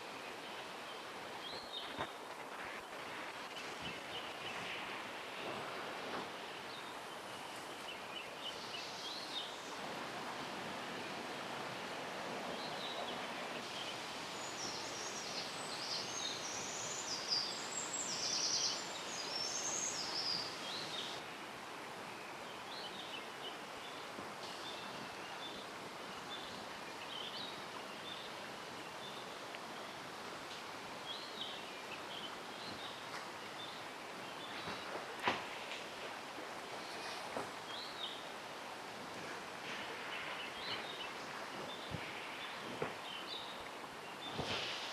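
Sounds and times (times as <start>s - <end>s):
songbirds calling: 0.0s - 10.0s, 10.7s - 44.9s
mountain stream rushing: 0.0s - 44.9s.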